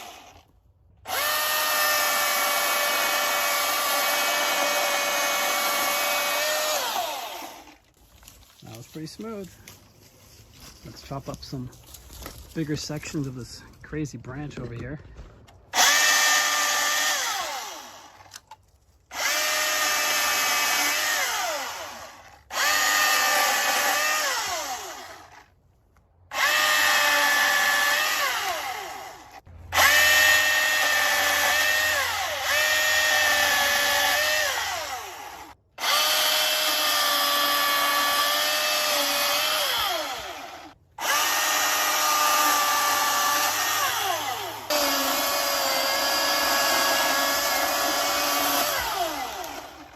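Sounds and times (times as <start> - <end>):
chainsaw cutting branches: 0.0 - 11.4, 15.7 - 25.6, 26.3 - 49.9.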